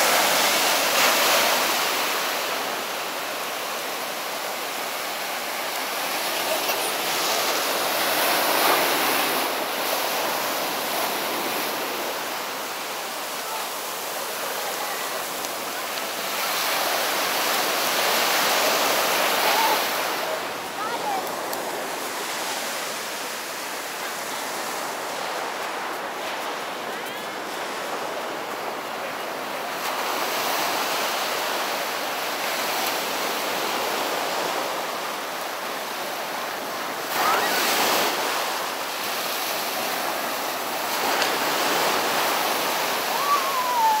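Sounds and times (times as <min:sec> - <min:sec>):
ocean waves breaking on beach: 0:00.0 - 0:44.0.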